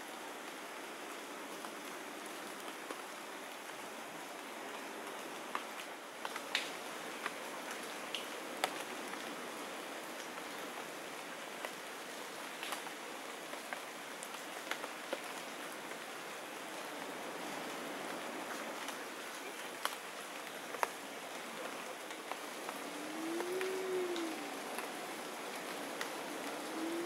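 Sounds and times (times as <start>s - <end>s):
forest hiss: 0.0s - 27.0s.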